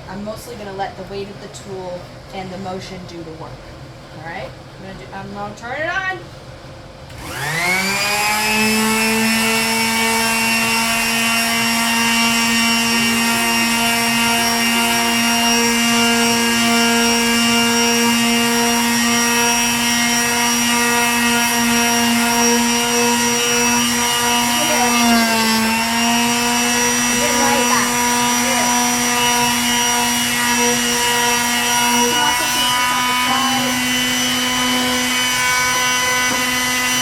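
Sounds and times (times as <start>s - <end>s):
electric sander running: 7.1s - 37.0s.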